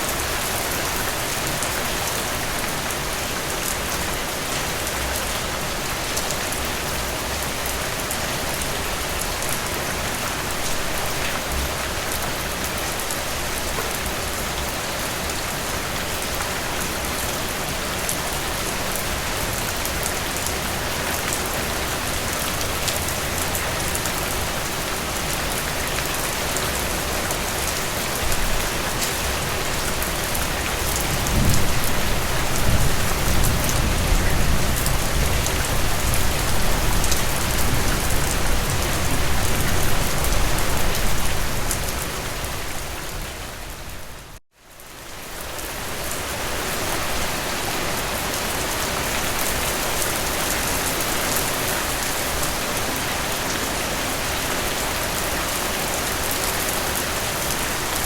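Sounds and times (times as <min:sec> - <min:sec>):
heavy rain falling through trees: 0:00.0 - 0:58.0.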